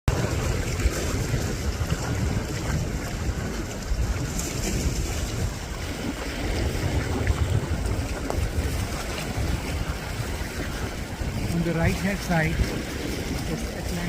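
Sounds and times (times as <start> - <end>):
wind buffeting microphone: 0.1 - 14.0.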